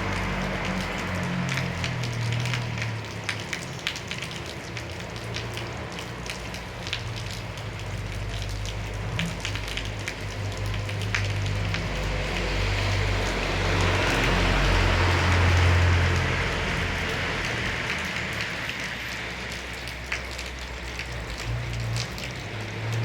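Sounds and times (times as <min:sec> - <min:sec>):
raindrops ticking: 0:00.0 - 0:23.0
steady rain falling: 0:00.0 - 0:23.0.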